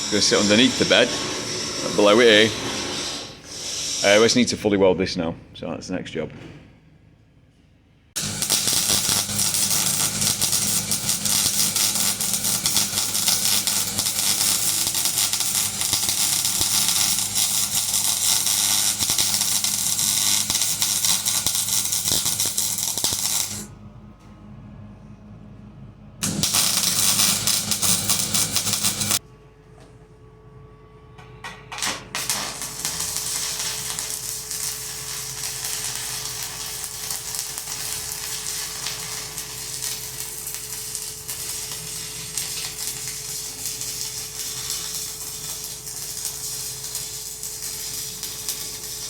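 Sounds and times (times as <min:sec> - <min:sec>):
arc welding crackling sizzle: 0:00.0 - 0:04.5, 0:08.1 - 0:23.7, 0:26.2 - 0:29.2, 0:31.8 - 0:49.0.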